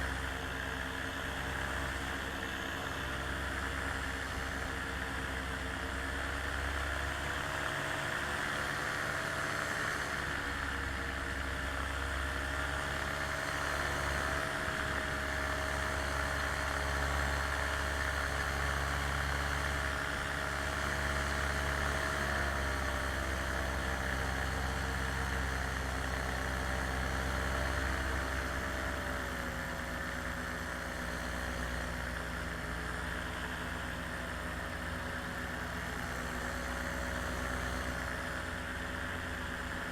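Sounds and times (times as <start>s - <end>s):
small aircraft engine drone: 0.0s - 39.9s.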